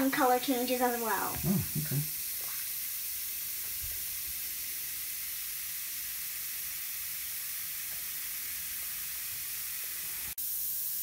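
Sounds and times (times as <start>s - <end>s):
fizzing hiss in water: 0.0s - 11.0s.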